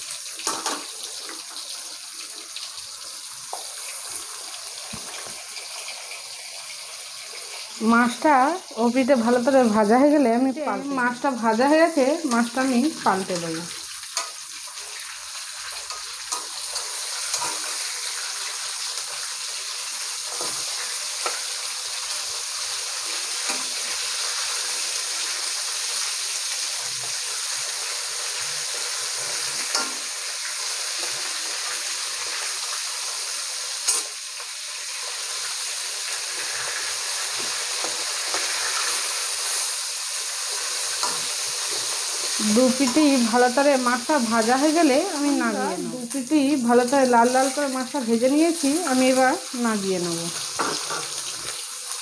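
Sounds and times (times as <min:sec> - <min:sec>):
fish sizzling in hot oil: 0:00.0 - 0:52.0.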